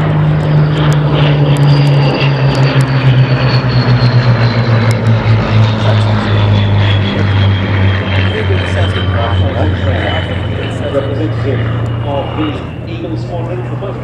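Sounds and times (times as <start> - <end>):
propeller planes flying past: 0.0 - 14.0.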